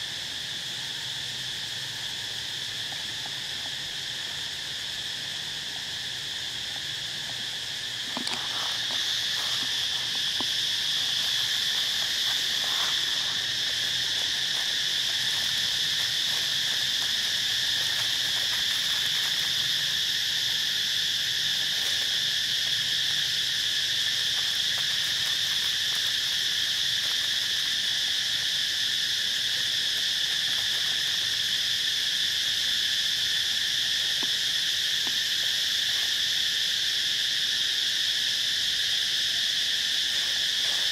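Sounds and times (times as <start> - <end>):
insect chorus buzzing: 0.0 - 40.9.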